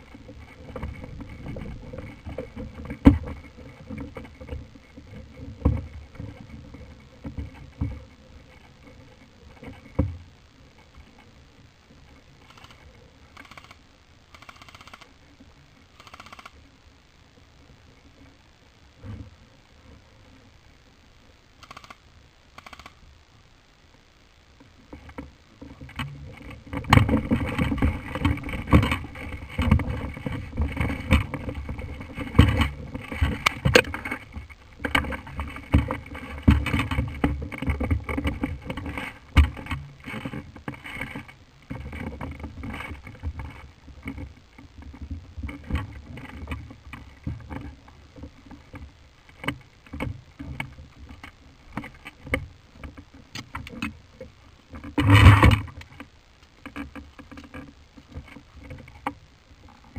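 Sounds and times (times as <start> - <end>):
rustling and scraping: 0.0 - 16.6, 24.7 - 59.9.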